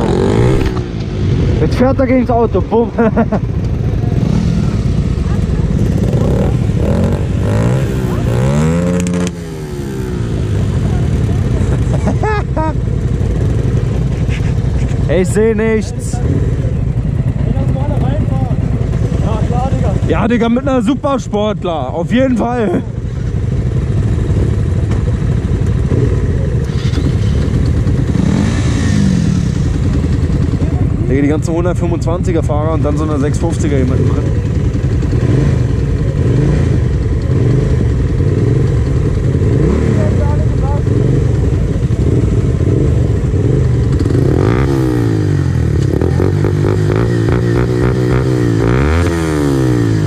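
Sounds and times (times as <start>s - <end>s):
motorcycle engines idling: 0.0s - 50.0s.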